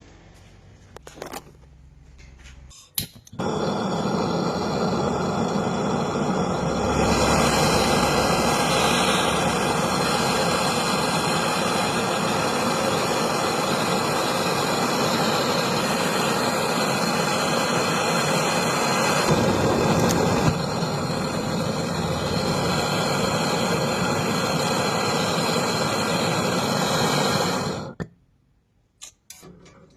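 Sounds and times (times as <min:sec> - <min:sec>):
gas torch hissing: 0:03.0 - 0:28.0.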